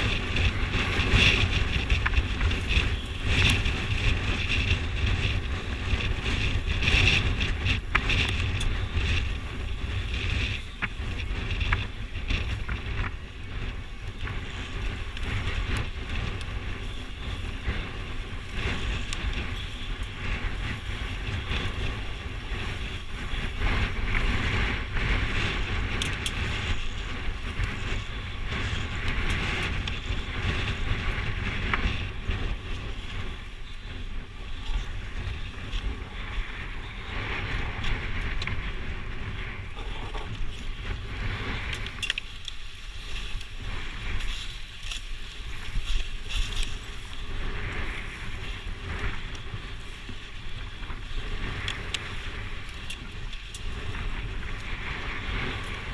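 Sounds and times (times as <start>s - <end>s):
dirt bike engine: 0.0s - 55.9s
wind buffeting microphone: 0.0s - 55.9s.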